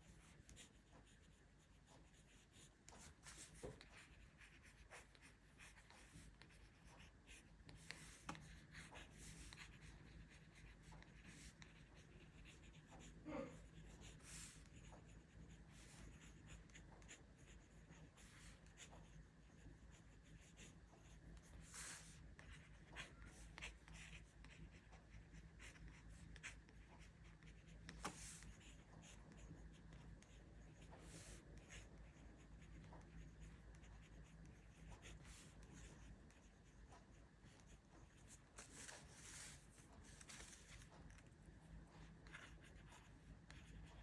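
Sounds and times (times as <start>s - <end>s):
pen scratching on paper: 0.0s - 44.0s.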